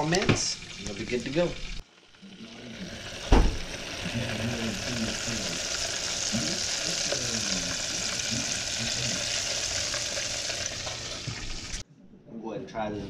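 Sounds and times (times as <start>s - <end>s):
fish deep frying in oil: 0.0s - 11.8s.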